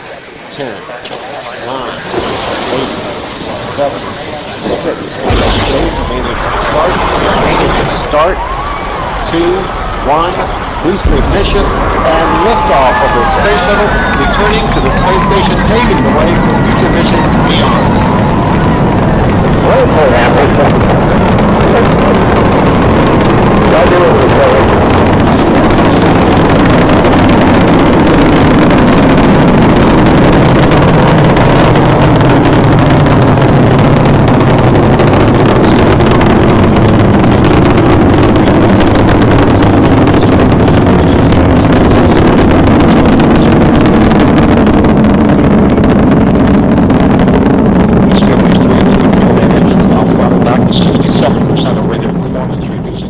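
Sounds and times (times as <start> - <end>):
rocket engines rumbling: 0.0 - 53.0.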